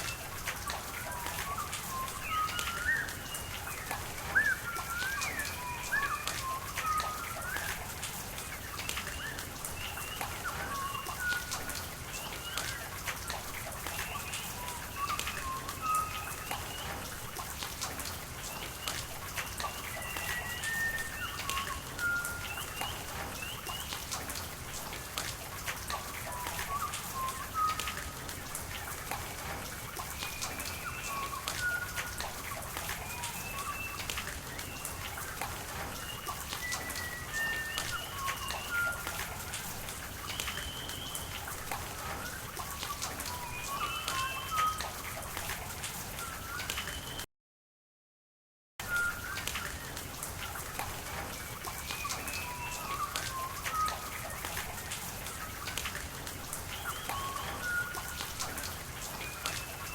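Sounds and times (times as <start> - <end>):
raindrops ticking: 0.0 - 47.2, 48.8 - 59.9.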